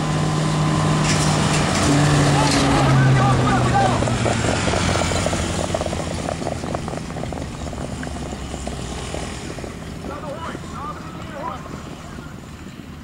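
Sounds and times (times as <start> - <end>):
horse hooves clicking on dirt: 1.2 - 11.8
motorcycle engine running: 1.7 - 12.2.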